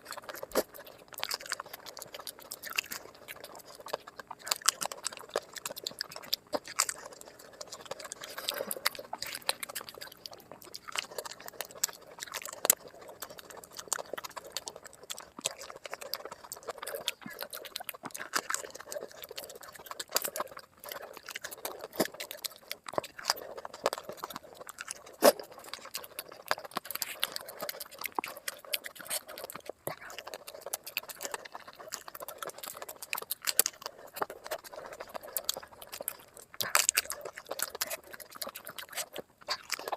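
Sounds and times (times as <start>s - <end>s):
fast chewing and crunching: 0.0s - 39.9s.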